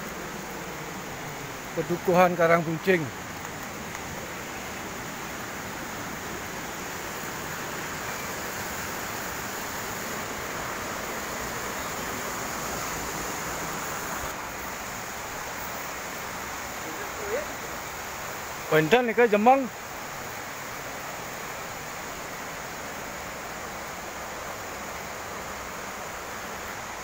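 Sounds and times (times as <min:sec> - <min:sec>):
river and waterfall rushing: 0:00.0 - 0:27.0.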